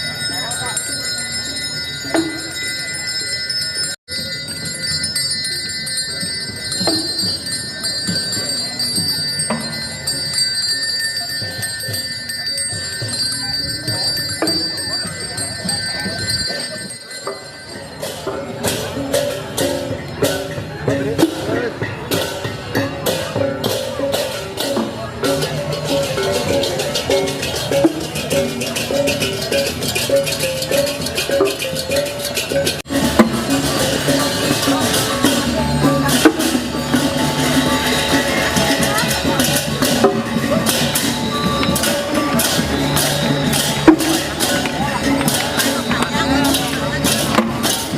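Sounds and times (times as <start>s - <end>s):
brass hand bell ringing: 0.0s - 21.5s, 22.1s - 47.9s
low voices murmuring: 0.0s - 47.9s
small cymbals clashing: 0.0s - 47.9s.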